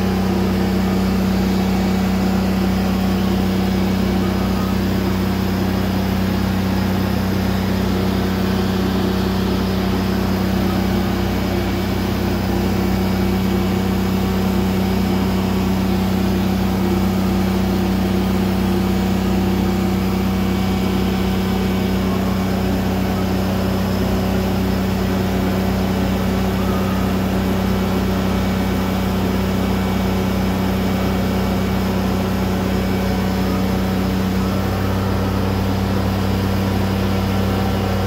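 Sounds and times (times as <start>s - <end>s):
welding machine humming: 0.0s - 38.0s.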